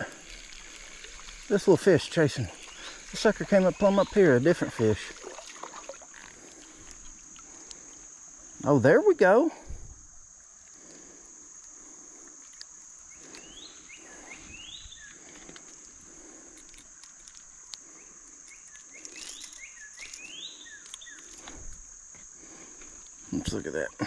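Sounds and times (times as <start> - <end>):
crickets droning: 0.0 - 24.0.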